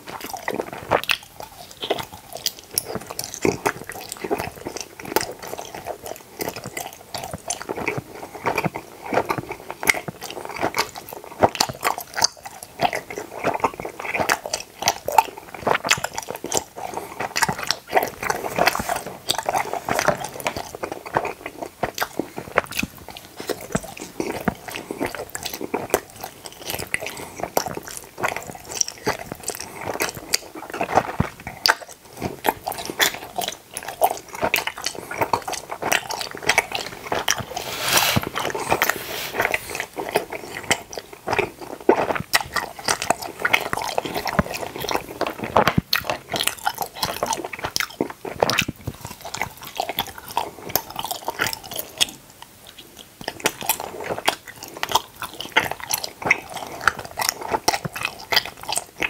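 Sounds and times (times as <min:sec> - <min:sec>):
person chewing gummy candies: 0:00.0 - 0:59.0.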